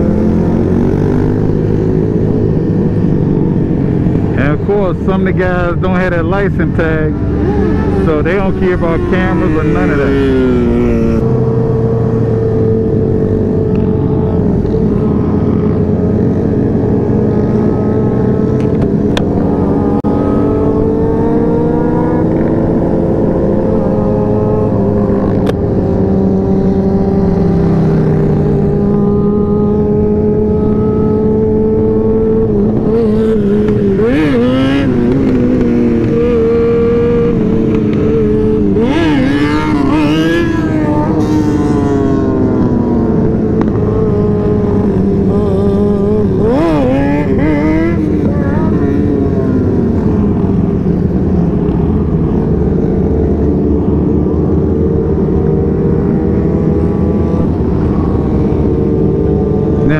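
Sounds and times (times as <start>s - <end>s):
motorcycles revving: 0.0s - 59.9s
road noise: 0.0s - 59.9s.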